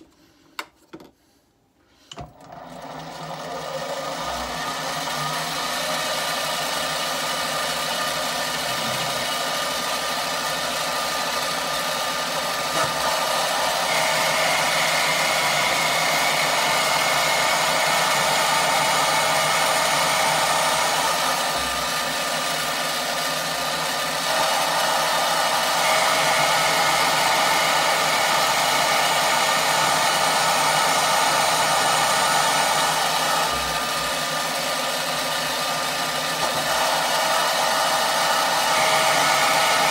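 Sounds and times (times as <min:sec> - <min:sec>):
turning tool cutting rod: 0:02.1 - 0:39.9
bench lathe running: 0:02.2 - 0:39.9.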